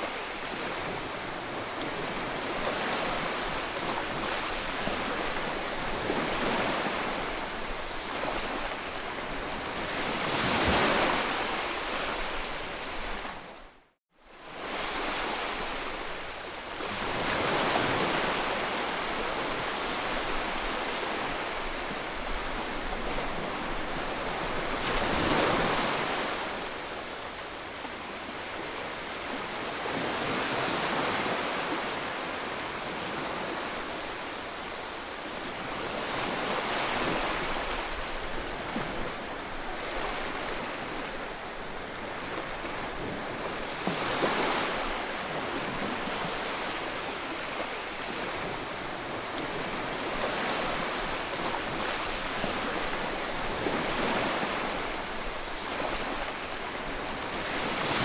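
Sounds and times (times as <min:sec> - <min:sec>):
sea waves breaking: 0:00.0 - 0:13.5, 0:16.8 - 0:58.0.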